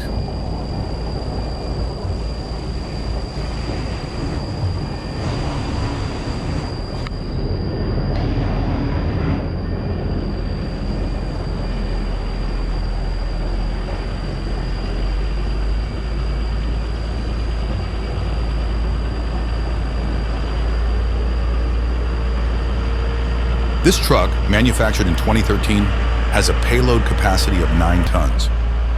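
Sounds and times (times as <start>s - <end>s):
diesel engine rumbling: 0.0s - 28.9s
thin high whine: 0.0s - 28.9s.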